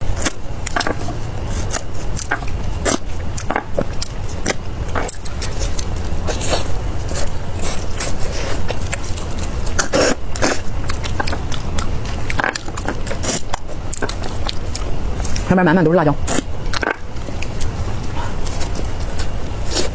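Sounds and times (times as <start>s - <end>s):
chewing crispy fried chicken: 0.0s - 15.6s, 16.2s - 19.9s
steady low hum: 0.0s - 19.9s.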